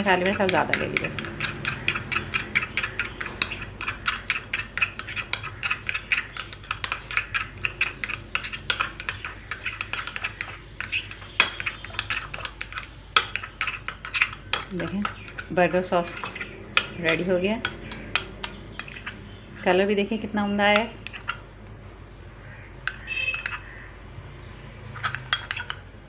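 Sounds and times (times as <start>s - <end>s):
spoon stirring in glass bowl: 0.0s - 21.5s, 22.8s - 23.8s, 24.9s - 25.9s.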